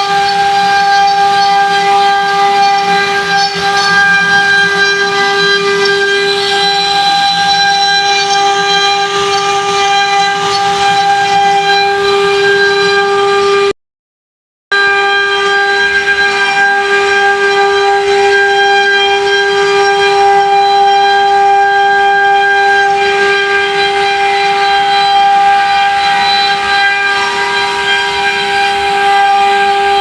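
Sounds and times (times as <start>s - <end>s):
router spindle high-pitched whine: 0.0s - 13.7s, 14.7s - 30.0s.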